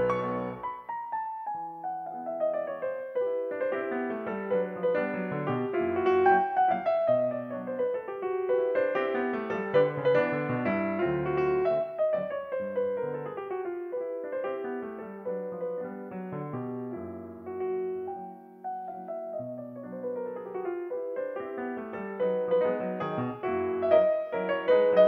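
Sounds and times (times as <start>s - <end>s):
solo classical piano: 0.0s - 25.0s.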